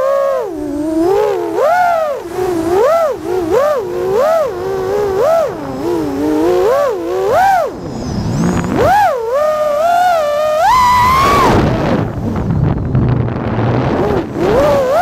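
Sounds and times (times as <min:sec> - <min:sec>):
drone motors whining: 0:00.0 - 0:15.0
low rush of wind: 0:00.0 - 0:15.0.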